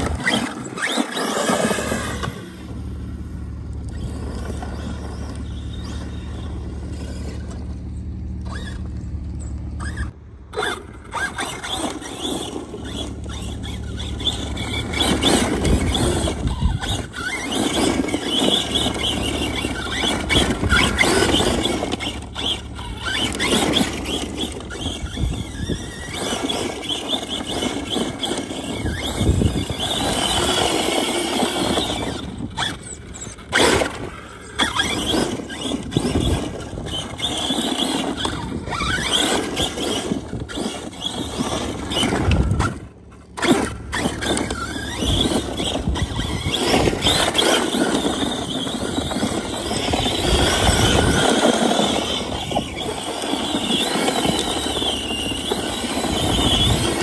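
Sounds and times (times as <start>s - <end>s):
rc truck motor whining: 0.0s - 57.0s.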